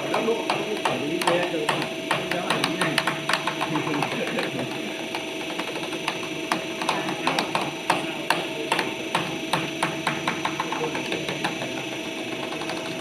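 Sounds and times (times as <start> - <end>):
machine humming: 0.0 - 13.0
sharp clicks and taps: 0.1 - 13.0.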